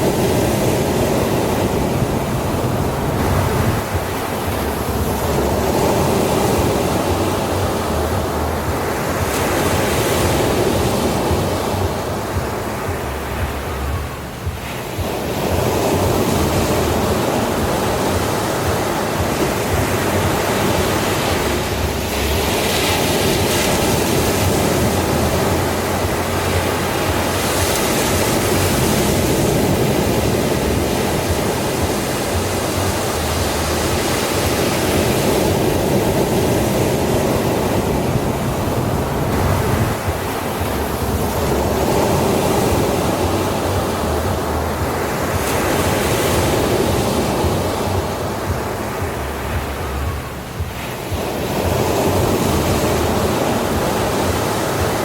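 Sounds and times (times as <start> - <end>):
ocean surf on sandy beach: 0.0 - 55.0.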